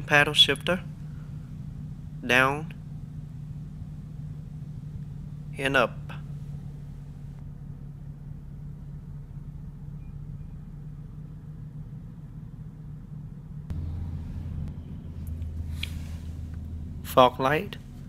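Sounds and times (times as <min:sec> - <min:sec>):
car engine idling: 0:00.0 - 0:18.0
deeper hum: 0:00.0 - 0:18.0.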